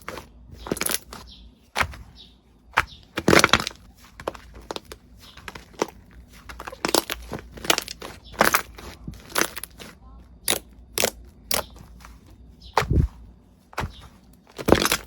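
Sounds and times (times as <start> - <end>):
crunchy slime crackling: 0.0 - 15.0.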